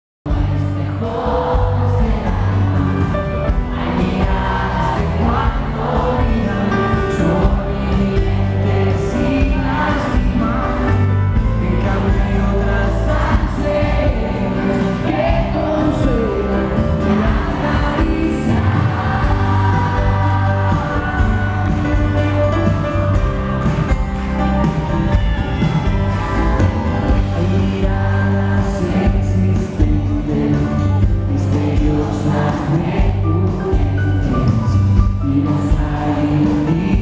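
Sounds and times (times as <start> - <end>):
man singing lead vocal: 0.3 - 23.9, 27.0 - 37.0
live pop-rock band: 0.3 - 37.0.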